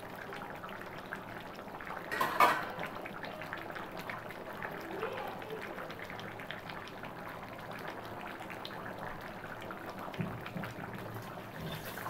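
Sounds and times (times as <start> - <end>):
curry boiling and bubbling: 0.0 - 12.0.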